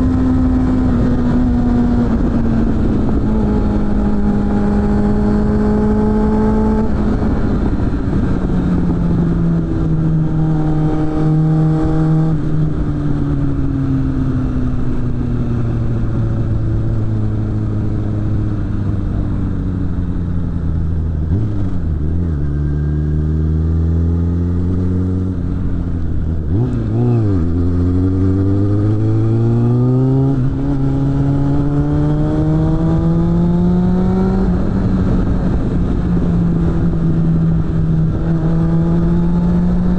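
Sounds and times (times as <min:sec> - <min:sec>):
wind rush: 0:00.0 - 0:22.5, 0:23.2 - 0:39.9
motorcycle engine: 0:00.0 - 0:39.9.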